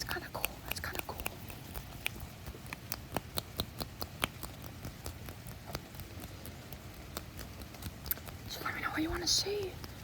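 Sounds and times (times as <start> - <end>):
low steady hum: 0.0 - 10.0
sharp clicks and light taps: 0.0 - 10.0.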